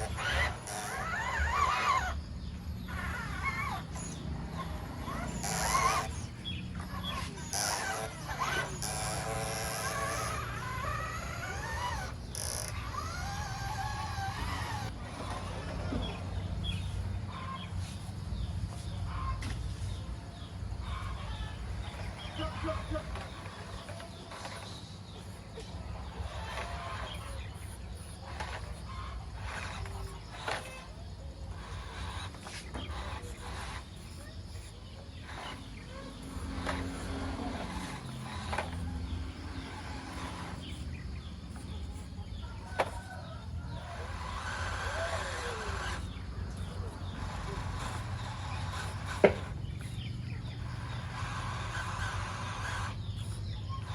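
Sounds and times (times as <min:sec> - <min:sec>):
small electric motor whining: 0:00.0 - 0:53.9.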